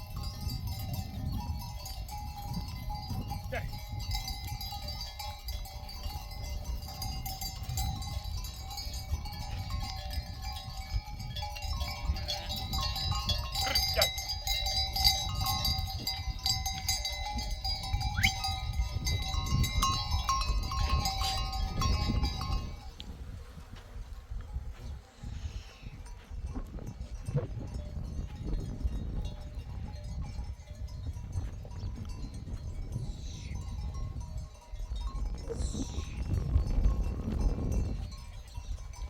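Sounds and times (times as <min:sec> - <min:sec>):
livestock bells ringing: 0:00.0 - 0:23.0, 0:26.0 - 0:39.0.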